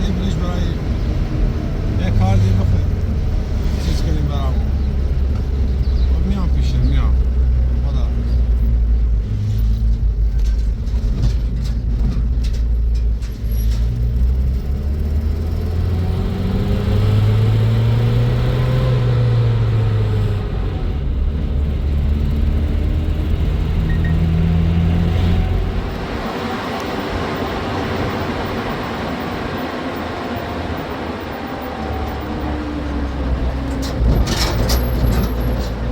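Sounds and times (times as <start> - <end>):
vehicle engine: 0.0 - 35.9.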